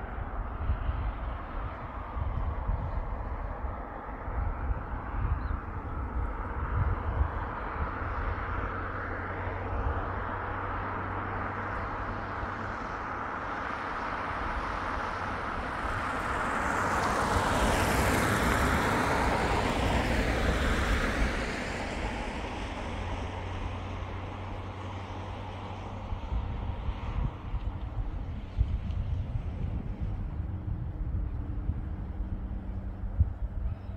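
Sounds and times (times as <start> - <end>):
vehicle passing by: 0.6 - 33.9.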